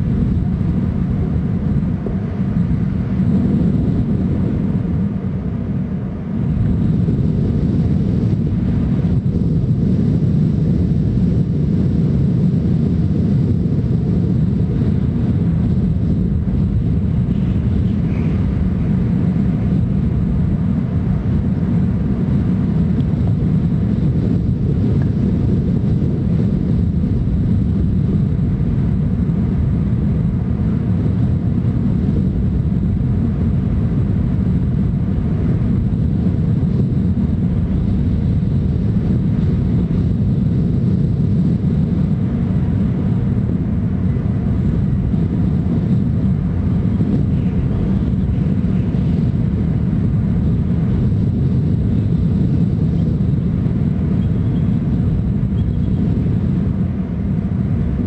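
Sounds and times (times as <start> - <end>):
low outdoor rumble: 0.0 - 58.0.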